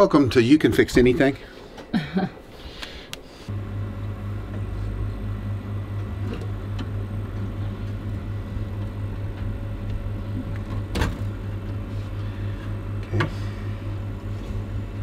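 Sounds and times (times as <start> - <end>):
solenoid valve electrical hum: 0.0 - 15.0.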